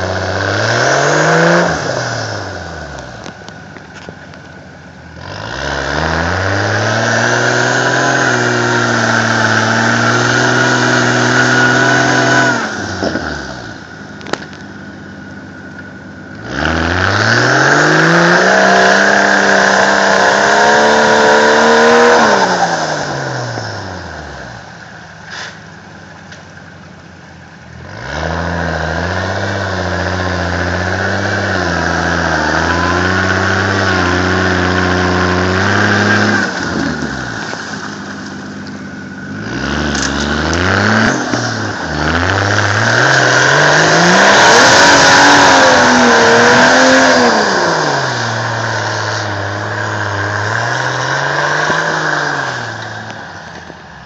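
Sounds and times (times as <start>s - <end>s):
truck churning through mud: 0.0s - 3.4s, 5.1s - 14.6s, 16.2s - 25.8s, 27.8s - 53.9s
pickup truck engine revving: 0.0s - 54.0s.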